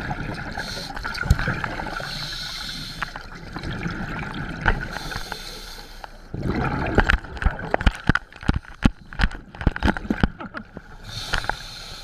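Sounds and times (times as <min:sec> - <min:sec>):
water slapping and splashing: 0:00.0 - 0:05.4, 0:06.4 - 0:11.6.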